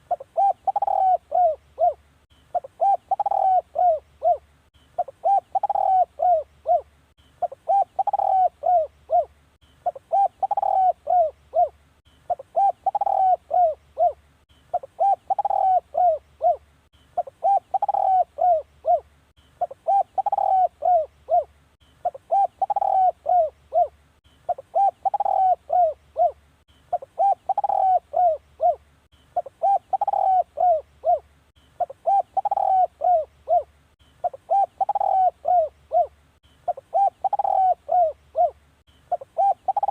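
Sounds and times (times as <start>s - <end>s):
dove cooing: 0.0s - 28.8s, 29.4s - 39.9s.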